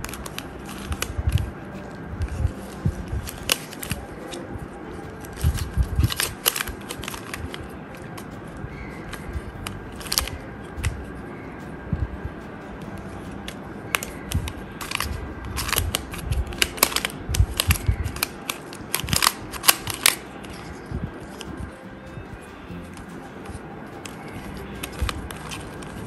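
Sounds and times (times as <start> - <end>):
puzzle layers clicking: 0.0 - 26.0.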